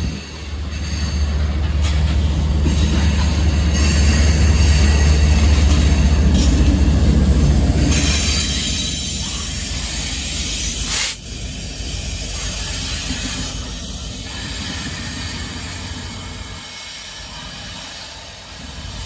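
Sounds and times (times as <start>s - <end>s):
diesel locomotives rolling past: 0.0s - 19.0s.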